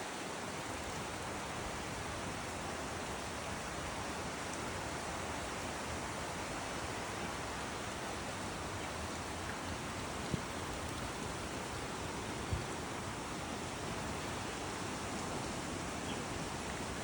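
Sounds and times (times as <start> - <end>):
creek flowing: 0.0 - 17.0.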